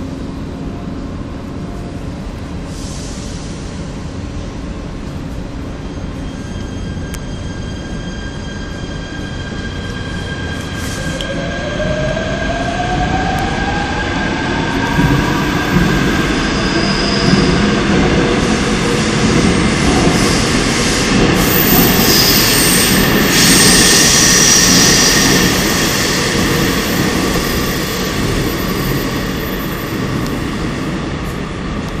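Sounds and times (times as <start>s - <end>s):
electric train on rails: 0.0s - 32.0s.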